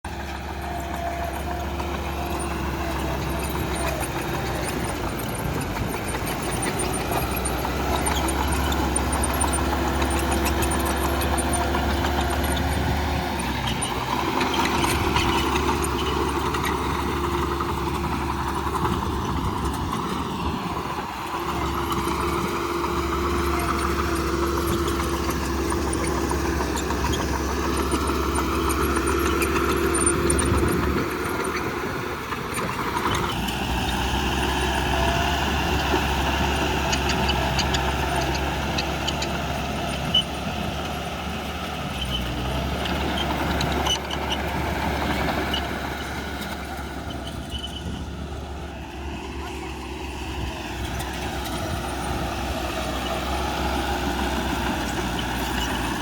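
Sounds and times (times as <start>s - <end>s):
bulldozer diesel engine working: 0.0s - 56.0s.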